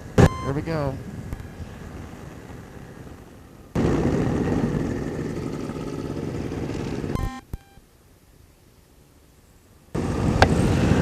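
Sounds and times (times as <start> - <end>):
light aircraft engine and airflow: 0.0 - 11.0.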